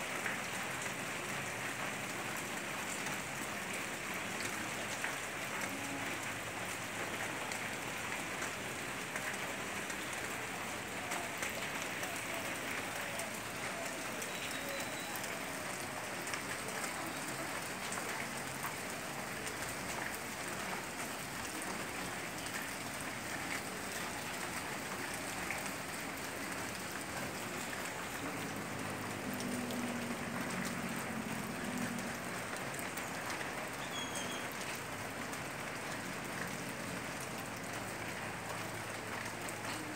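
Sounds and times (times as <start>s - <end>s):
heavy rain on metal roofs: 0.0s - 39.9s.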